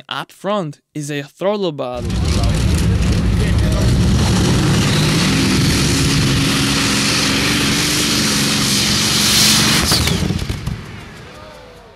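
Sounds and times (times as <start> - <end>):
sharp cracks: 2.0 - 11.6
engine droning under load: 2.0 - 11.9
high whine falling in pitch: 2.0 - 11.9.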